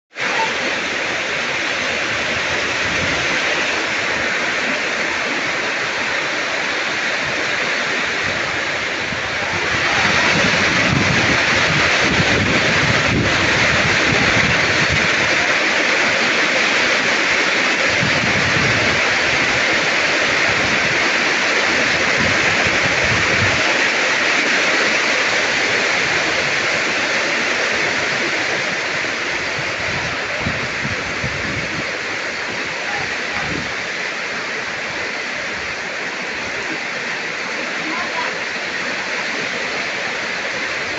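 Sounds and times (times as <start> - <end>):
heavy rain pouring: 0.1 - 40.9.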